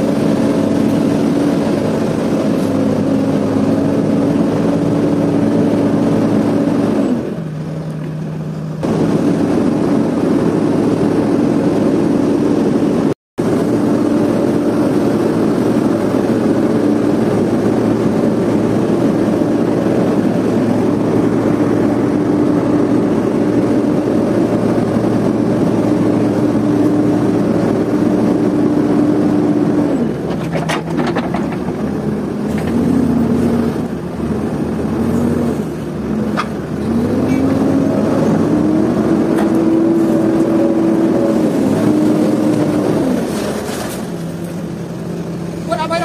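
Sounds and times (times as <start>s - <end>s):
backhoe diesel engine under load: 0.0s - 46.0s.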